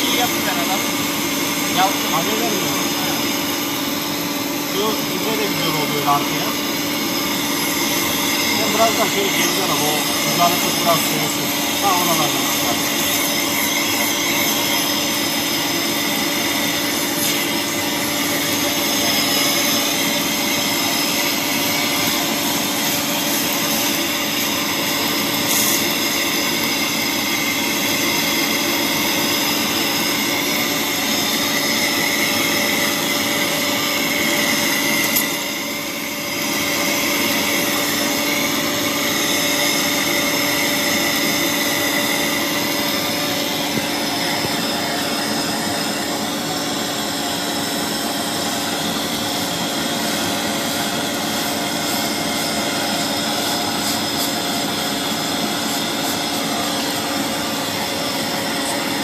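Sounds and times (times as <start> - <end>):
welding machine hiss and hum: 0.0 - 59.0.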